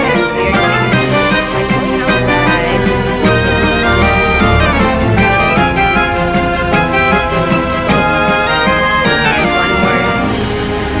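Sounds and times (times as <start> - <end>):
lively instrumental music with strings: 0.0 - 11.0.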